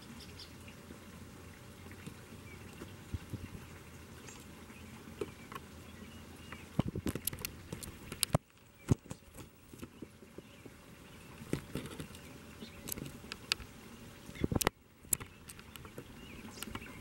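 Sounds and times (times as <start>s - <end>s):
water splashing into pond: 0.0s - 17.0s.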